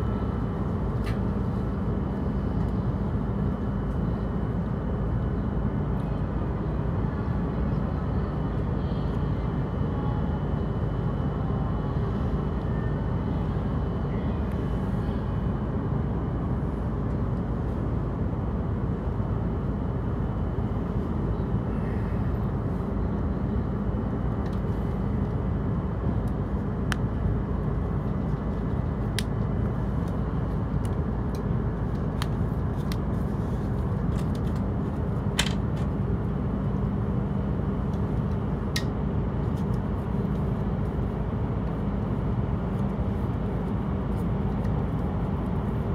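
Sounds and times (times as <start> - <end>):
steady low hum in train car: 0.0 - 45.9.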